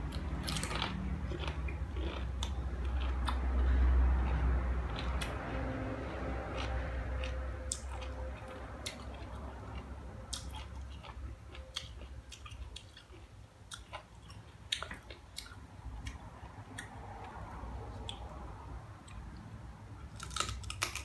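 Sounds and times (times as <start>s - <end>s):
person chewing crunchy fruit: 0.0s - 21.0s.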